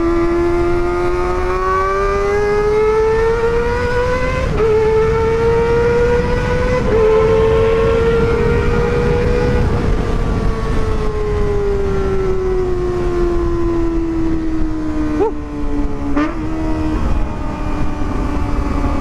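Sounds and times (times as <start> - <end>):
wind rush: 0.0 - 19.0.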